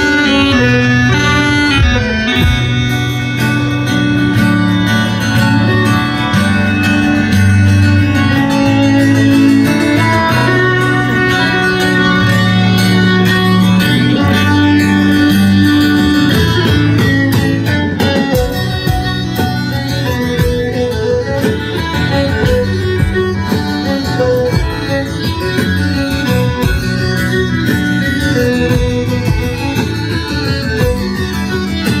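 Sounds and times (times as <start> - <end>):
bowed fiddle: 0.0 - 32.0
strummed acoustic guitar: 0.0 - 32.0.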